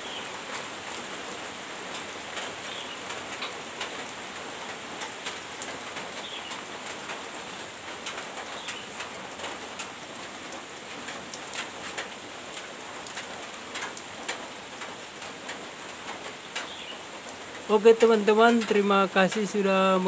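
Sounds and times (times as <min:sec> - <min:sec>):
heavy rain falling: 0:00.0 - 0:20.0
raindrops ticking on surfaces: 0:00.0 - 0:20.0.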